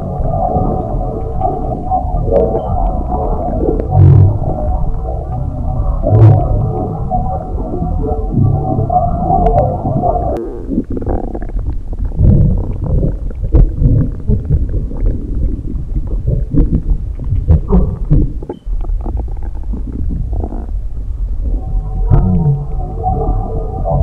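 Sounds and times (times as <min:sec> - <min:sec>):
stomach rumbling: 0:00.0 - 0:24.0.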